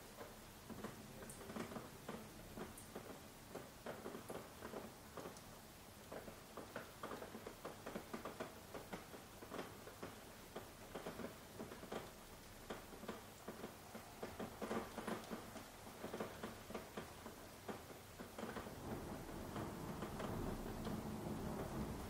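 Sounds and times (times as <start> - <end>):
hiss of rainfall: 0.0 - 22.0
raindrops tapping and dripping: 0.0 - 22.0.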